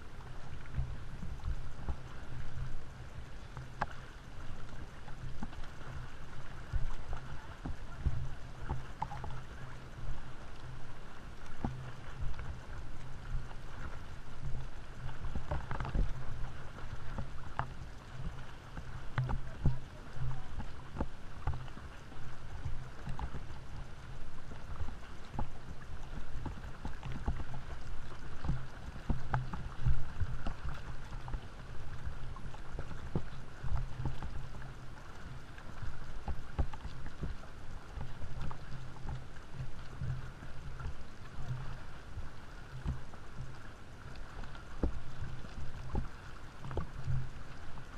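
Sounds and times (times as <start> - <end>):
seawater sloshing and slapping: 0.0 - 47.9
water splashes: 0.0 - 47.9.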